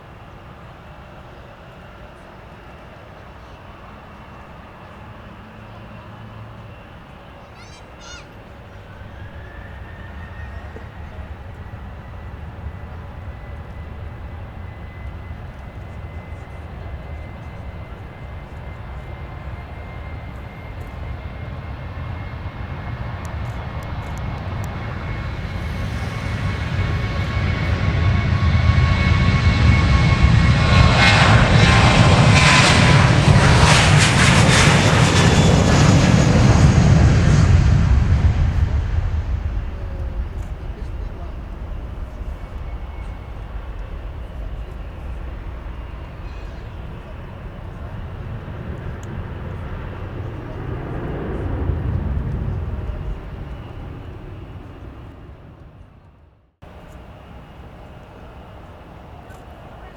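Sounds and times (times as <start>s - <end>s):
jet engines at takeoff power: 0.0s - 59.9s.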